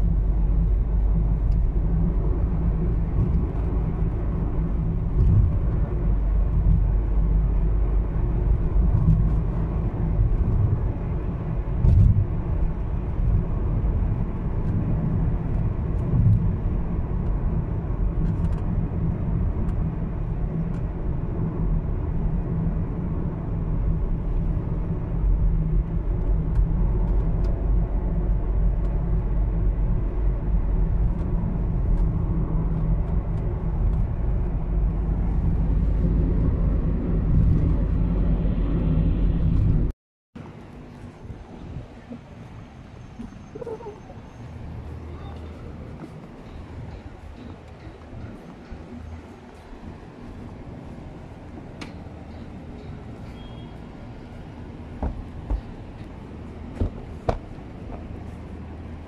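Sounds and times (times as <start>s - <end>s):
car road rumble from inside: 0.0s - 59.0s.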